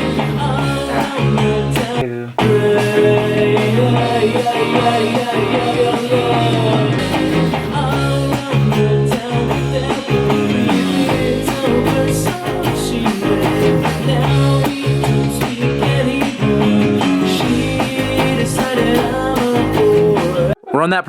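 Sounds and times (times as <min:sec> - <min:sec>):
bass guitar: 0:00.0 - 0:20.6
indie rock band music: 0:00.0 - 0:20.6.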